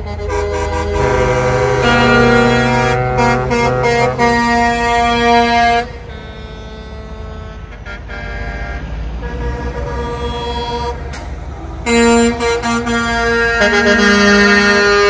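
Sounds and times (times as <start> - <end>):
diesel engine rumble: 0.0 - 15.0
truck air horns blowing: 0.0 - 15.0.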